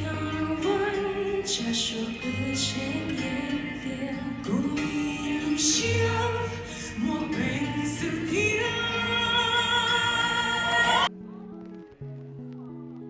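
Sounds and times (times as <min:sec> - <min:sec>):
person singing: 0:00.0 - 0:12.9
background music accompaniment: 0:00.0 - 0:13.0.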